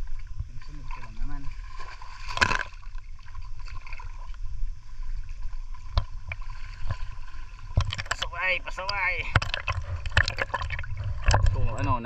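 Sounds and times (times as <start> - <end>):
water sloshing and lapping: 0.0 - 12.0
water splash: 0.6 - 4.4, 5.8 - 12.0.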